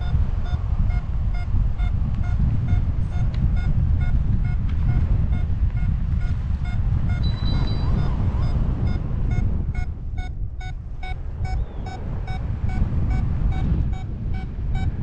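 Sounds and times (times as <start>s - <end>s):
variometer short beeps: 0.0s - 15.0s
wind buffeting microphone: 0.0s - 15.0s.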